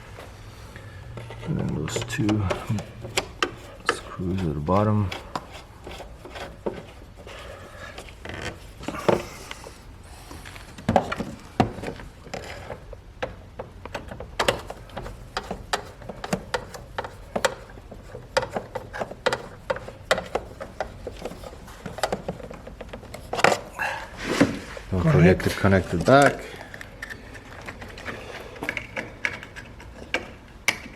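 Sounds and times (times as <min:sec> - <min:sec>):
metal and plastic rubbing: 0:00.0 - 0:30.9.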